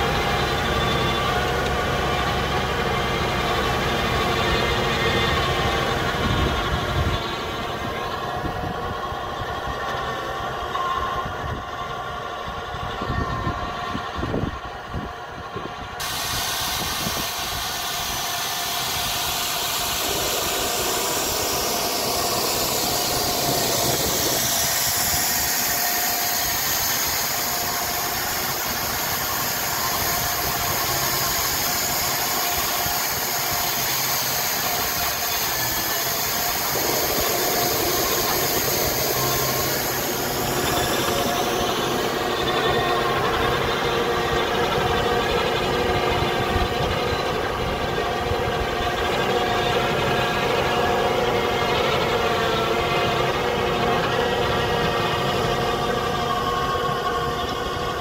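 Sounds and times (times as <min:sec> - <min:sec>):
power harrow through soil: 0:00.0 - 0:58.0
tractor engine under load: 0:00.0 - 0:58.0.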